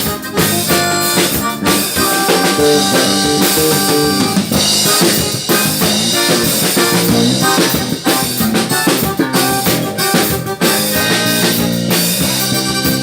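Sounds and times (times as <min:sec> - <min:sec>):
drum kit beat: 0:00.0 - 0:13.0
sustained bass notes: 0:00.0 - 0:13.0.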